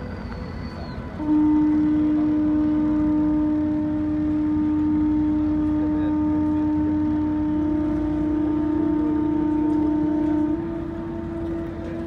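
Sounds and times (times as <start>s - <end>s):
ship's horn long low blast: 0.0s - 12.0s.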